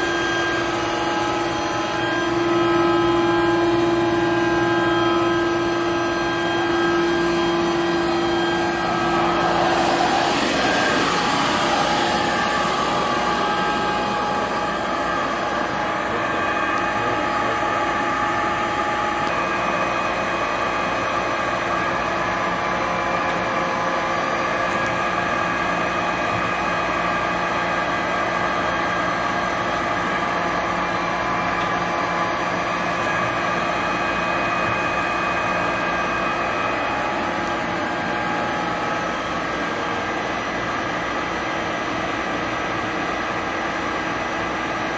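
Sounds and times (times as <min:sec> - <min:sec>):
grinder motor hum with whining: 0:00.0 - 0:44.9.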